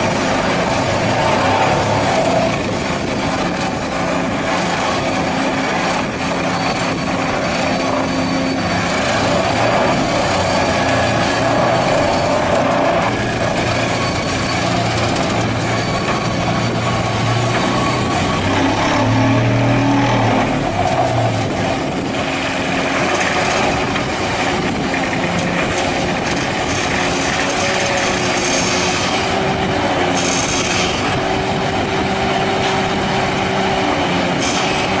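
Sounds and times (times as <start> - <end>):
excavator engine running: 0.0 - 35.0.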